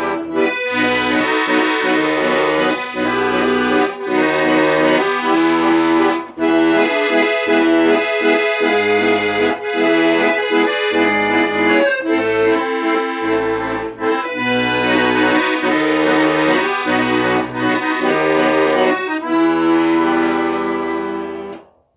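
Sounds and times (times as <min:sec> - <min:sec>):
accordion playing chords: 0:00.0 - 0:21.6.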